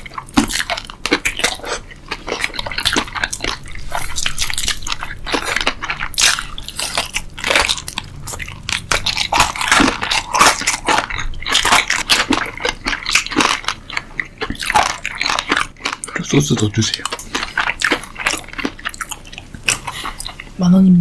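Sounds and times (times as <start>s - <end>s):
person crunching and chewing: 0.0s - 20.6s.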